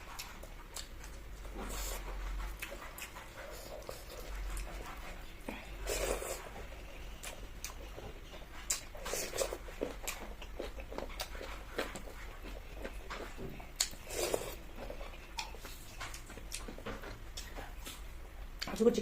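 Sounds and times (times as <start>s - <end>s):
chewing and mouth smacks: 0.0s - 18.8s.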